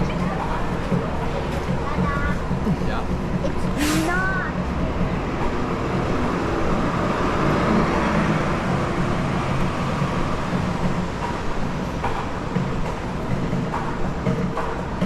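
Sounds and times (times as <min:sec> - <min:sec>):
rumble of moving vehicles: 0:00.0 - 0:15.0.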